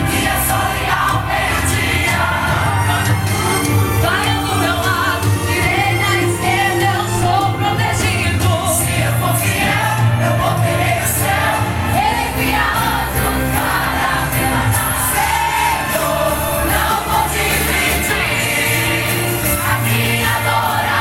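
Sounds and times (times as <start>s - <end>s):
group singing gospel song: 0.0s - 21.0s
instrumental accompaniment with bass: 0.0s - 21.0s.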